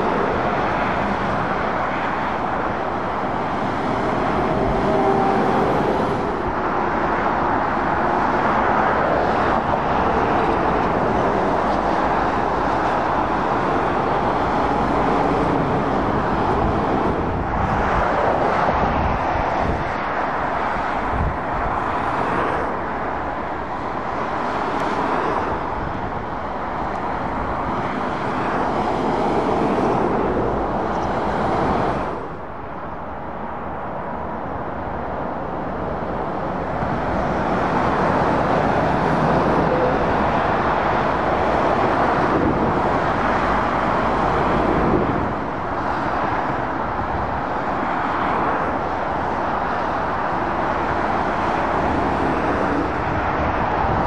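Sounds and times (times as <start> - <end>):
lorries and cars passing: 0.0 - 54.0.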